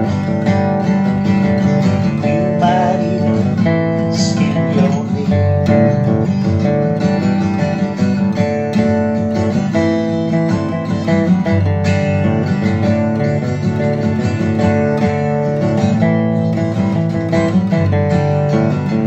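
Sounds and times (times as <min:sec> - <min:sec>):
strummed acoustic guitar music: 0:00.0 - 0:19.0.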